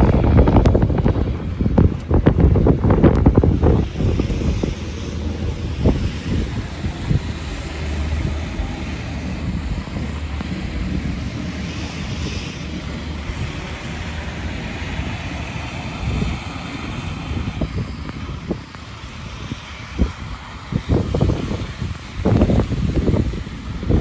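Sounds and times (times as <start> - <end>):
cars moving on snowy road: 0.0 - 24.0
wind buffeting microphone: 0.0 - 24.0.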